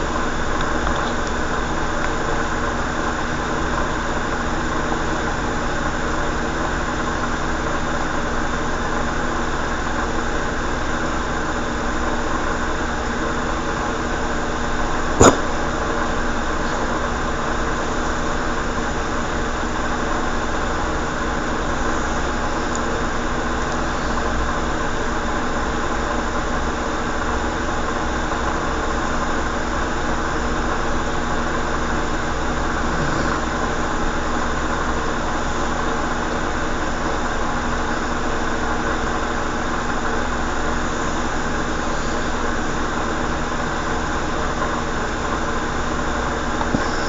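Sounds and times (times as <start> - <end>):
mechanical hum and hiss: 0.0 - 47.0.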